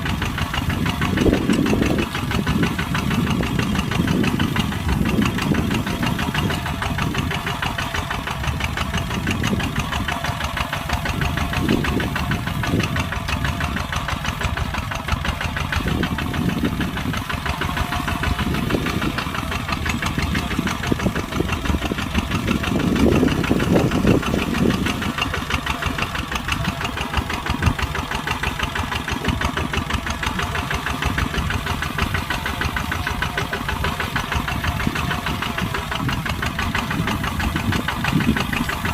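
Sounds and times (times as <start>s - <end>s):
diesel tractor engine knocking: 0.0s - 38.9s.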